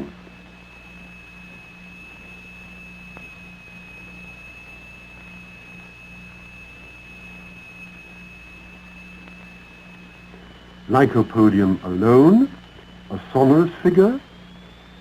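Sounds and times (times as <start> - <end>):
faint low hum: 0.0 - 15.0
steady high-pitched sine tone: 0.0 - 15.0.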